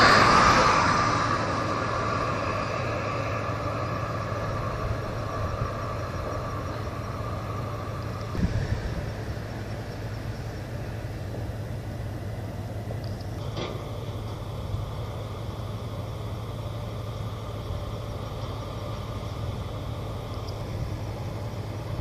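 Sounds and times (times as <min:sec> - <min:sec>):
low mechanical rumble with hum: 0:00.0 - 0:22.0.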